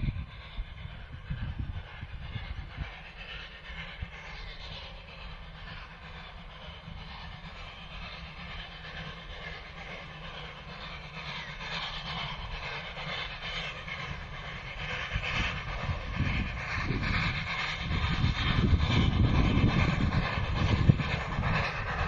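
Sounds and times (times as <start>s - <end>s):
steam locomotive working uphill: 0.0s - 22.0s.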